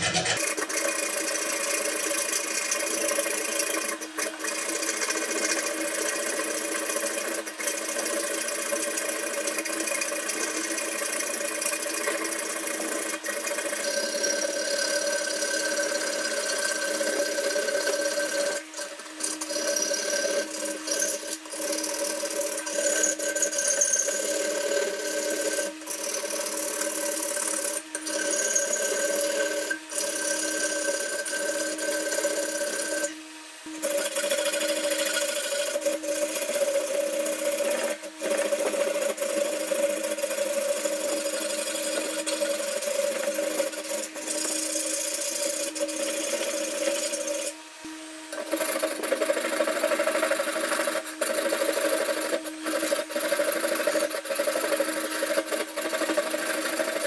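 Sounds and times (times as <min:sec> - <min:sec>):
file rasping on steel blade: 0:00.0 - 0:57.0.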